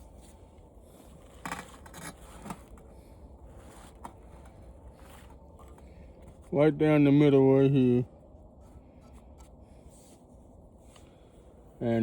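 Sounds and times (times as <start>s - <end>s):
handling scrapes and rustles: 0.0s - 6.6s, 8.5s - 11.8s
steady low hum: 0.0s - 12.0s.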